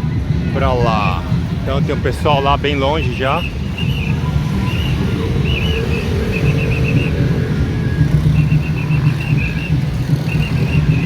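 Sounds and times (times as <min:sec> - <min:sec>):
engine running low rumble: 0:01.2 - 0:11.0.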